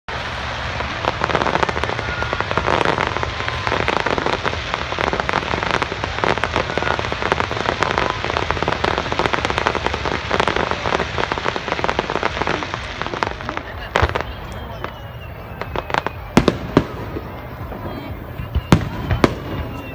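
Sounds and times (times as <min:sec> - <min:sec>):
fireworks crackling: 0:00.1 - 0:19.9.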